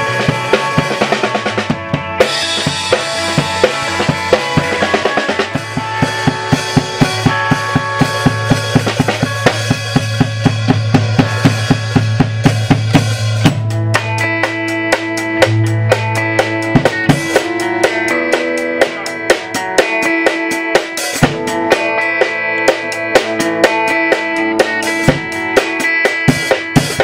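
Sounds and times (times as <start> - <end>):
held low note and chords: 0.0 - 26.0
drum kit fast beat: 0.0 - 27.0.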